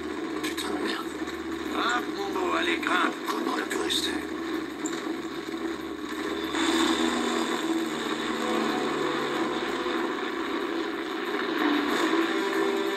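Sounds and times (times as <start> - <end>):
seaplane engines running: 0.0 - 12.9.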